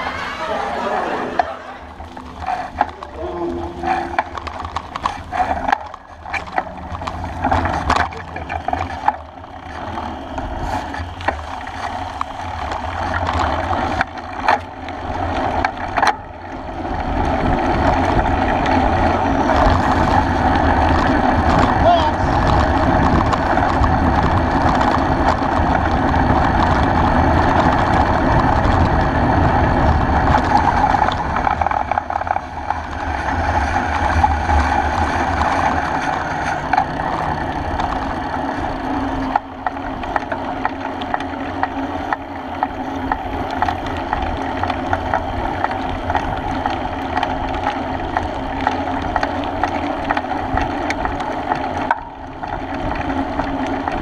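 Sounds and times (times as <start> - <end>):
bicycle tyre and frame vibration: 0.0 - 54.0.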